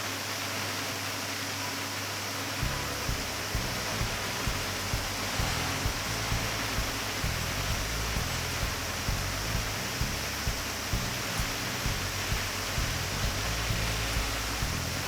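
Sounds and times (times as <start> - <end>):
heavy rain hissing: 2.4 - 15.0.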